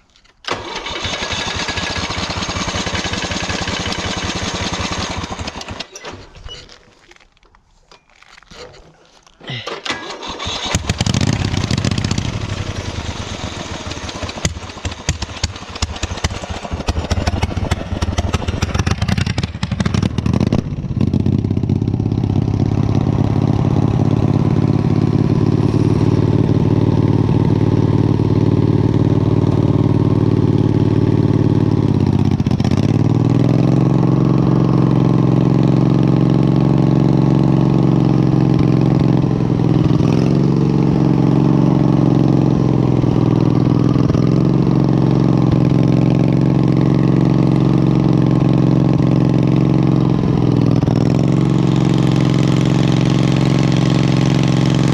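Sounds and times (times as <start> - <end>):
tractor engine rattling and running: 0.0 - 7.4, 8.0 - 54.9.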